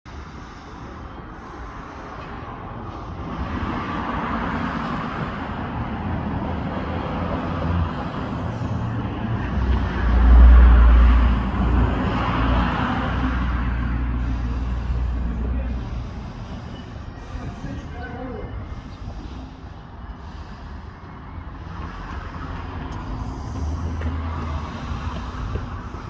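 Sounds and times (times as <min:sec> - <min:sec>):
motor vehicle rumbling: 0:00.1 - 0:26.0.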